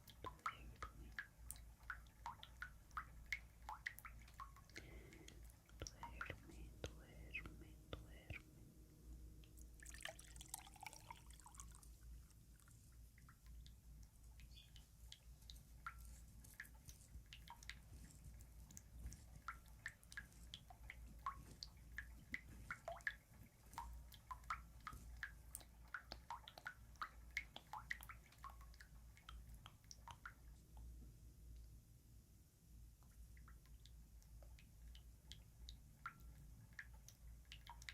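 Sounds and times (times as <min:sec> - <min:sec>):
water dripping: 0:00.0 - 0:31.8, 0:32.9 - 0:37.9.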